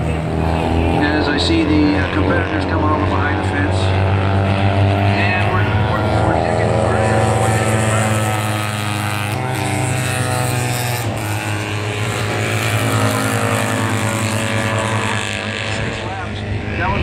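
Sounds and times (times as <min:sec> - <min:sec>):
racing engines passing: 0:00.0 - 0:17.0.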